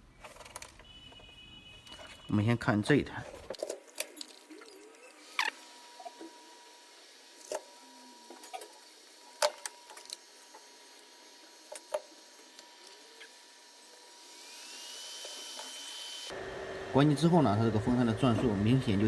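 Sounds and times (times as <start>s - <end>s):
faint steady whine: 3.3s - 19.0s
projector cooling fan spinning: 3.5s - 19.0s.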